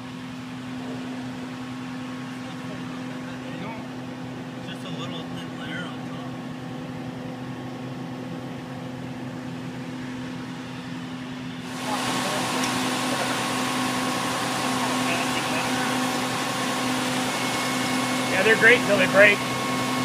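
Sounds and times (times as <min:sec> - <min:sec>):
truck engine and pump humming: 0:00.0 - 0:20.0.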